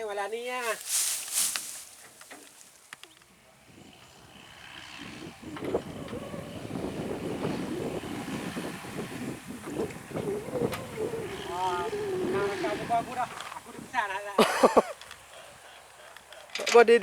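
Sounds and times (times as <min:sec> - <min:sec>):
diesel machinery engine rumbling: 0:00.7 - 0:16.9.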